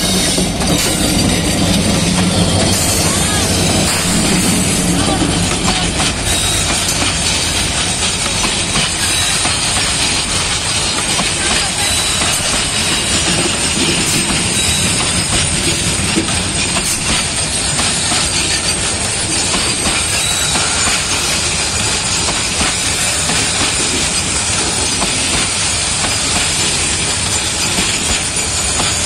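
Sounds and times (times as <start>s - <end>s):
train wheels clattering over rails: 0.0s - 29.0s.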